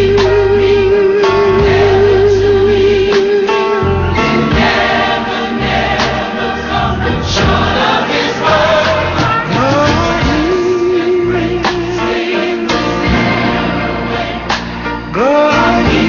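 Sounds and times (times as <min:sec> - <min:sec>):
band backing: 0:00.0 - 0:16.0
gospel choir singing: 0:00.0 - 0:16.0.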